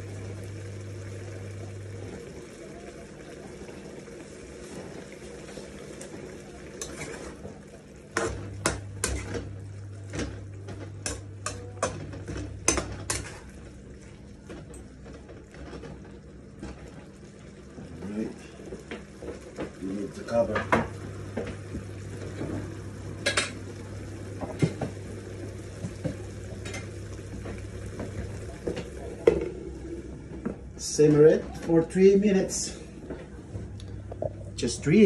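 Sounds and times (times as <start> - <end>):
frying sizzle: 0.0 - 31.4.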